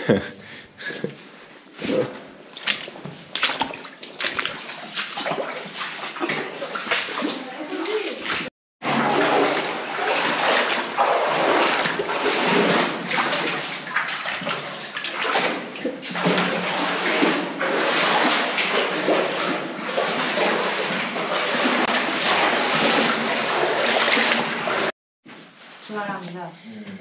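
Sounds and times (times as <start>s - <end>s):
footsteps wading through water: 2.0s - 24.9s.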